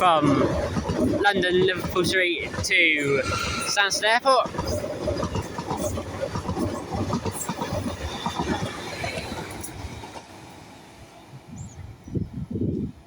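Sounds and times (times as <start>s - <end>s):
train wheels rumbling over rails: 0.0s - 13.0s.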